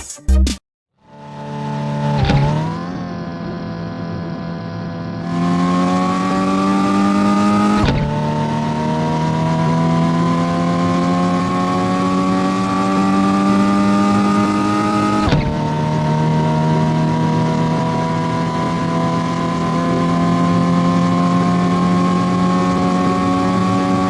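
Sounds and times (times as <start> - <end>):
engine accelerating through gears: 1.0 - 24.0.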